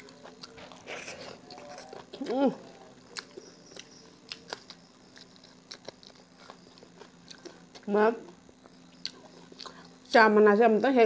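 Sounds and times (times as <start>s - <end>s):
person chewing and lip-smacking: 0.0s - 7.9s, 8.6s - 10.0s.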